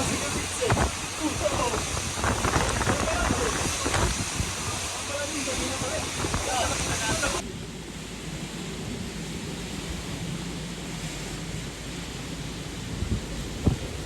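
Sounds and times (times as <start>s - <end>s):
heavy rain: 0.0s - 14.0s
typhoon wind: 0.0s - 14.0s.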